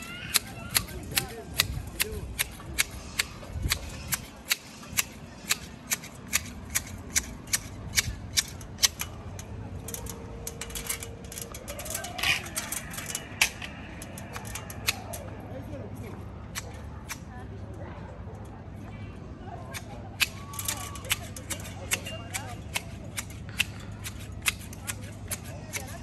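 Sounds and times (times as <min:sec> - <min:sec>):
hedge shears clicking: 0:00.0 - 0:15.4, 0:16.5 - 0:17.3, 0:19.7 - 0:26.0.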